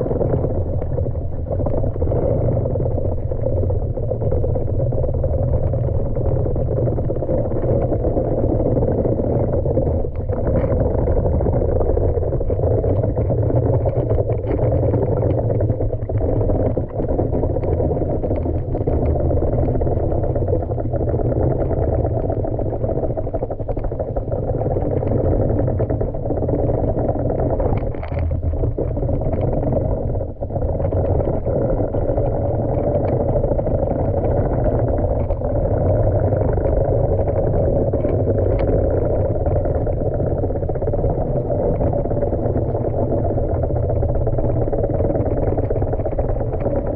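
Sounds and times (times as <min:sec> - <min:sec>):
underwater pool vacuum rumble: 0:00.0 - 0:46.9.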